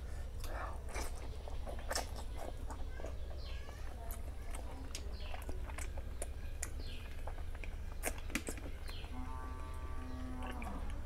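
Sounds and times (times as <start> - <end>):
steady low hum: 0.0 - 11.0
wet chewing and mouth clicks: 0.3 - 11.0.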